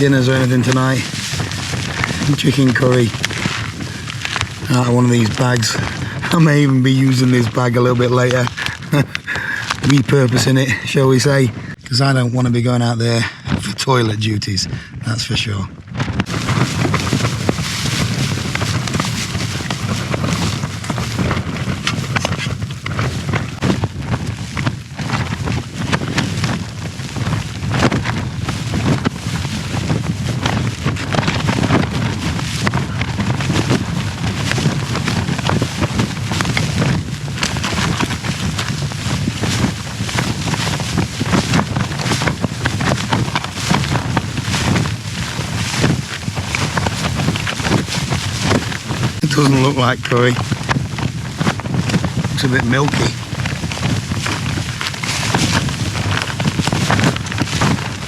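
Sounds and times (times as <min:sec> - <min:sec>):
tent fabric flapping: 0:00.0 - 0:11.8, 0:15.4 - 0:58.0
strong wind gusts: 0:00.0 - 0:58.0.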